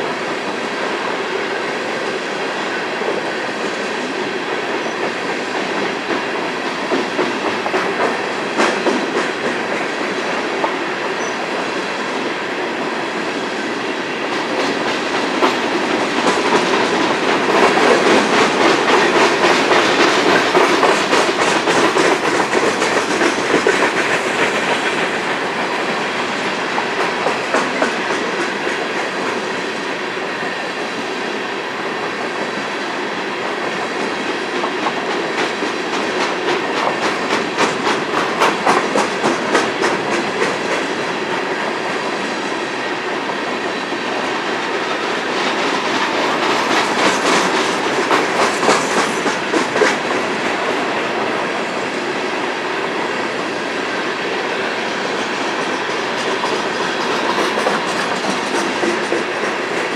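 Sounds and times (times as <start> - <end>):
train wheels rumbling on rail: 0.0 - 59.9
rhythmic clickety-clack: 2.7 - 29.9, 32.0 - 59.9.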